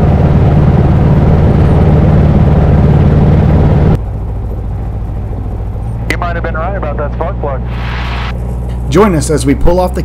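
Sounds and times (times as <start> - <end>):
piston engine running rough: 0.0 - 10.0.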